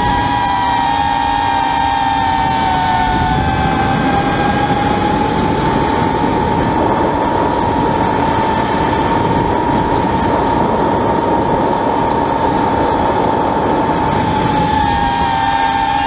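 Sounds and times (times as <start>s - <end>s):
drone motors whining: 0.0s - 16.0s
rush of wind: 0.0s - 16.0s.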